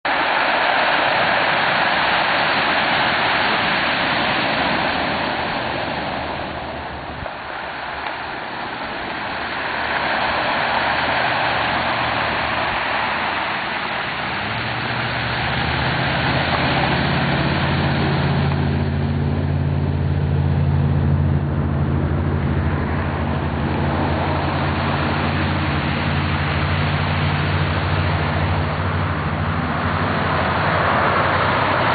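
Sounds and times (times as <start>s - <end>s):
surf breaking on cobble beach: 0.0s - 31.9s
large engine idling: 5.1s - 31.9s.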